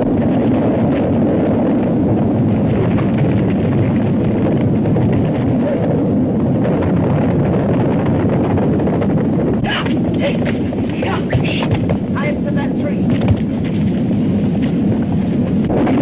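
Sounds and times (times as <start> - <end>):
loud steady rushing noise: 0.0 - 16.0.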